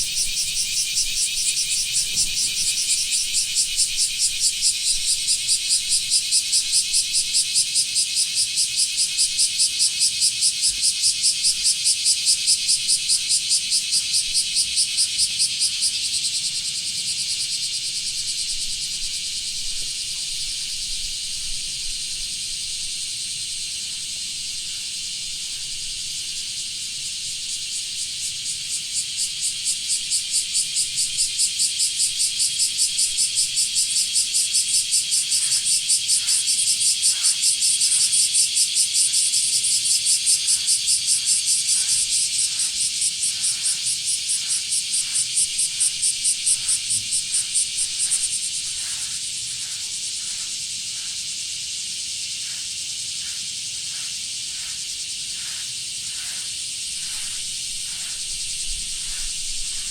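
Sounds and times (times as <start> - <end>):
hissing cicada chorus: 0.0 - 59.9
loud pulsing cicada call: 0.0 - 59.9.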